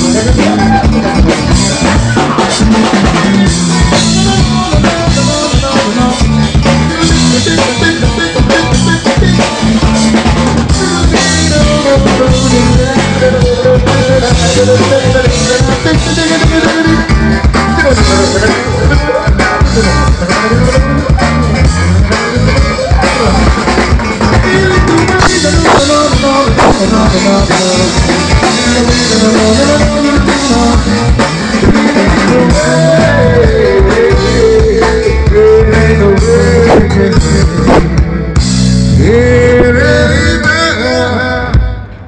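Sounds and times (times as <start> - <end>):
bass: 0.0 - 42.0
busy drum kit: 0.0 - 42.0
electric guitar: 0.0 - 42.0.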